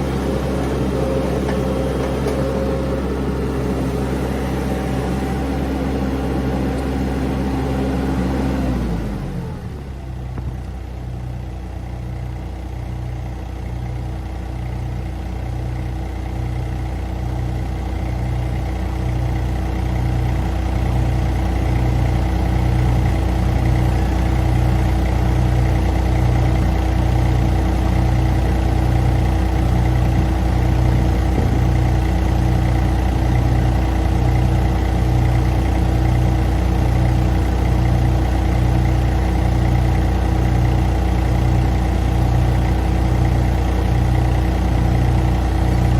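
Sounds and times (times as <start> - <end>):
vehicle engine idling: 0.0 - 45.9.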